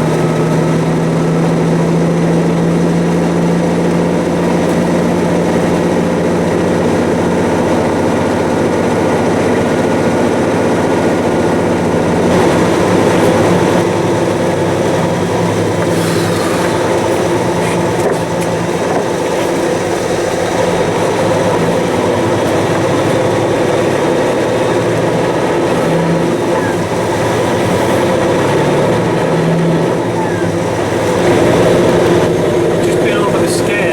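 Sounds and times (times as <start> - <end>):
diesel engine drone: 0.0 - 33.9
road noise: 0.0 - 33.9.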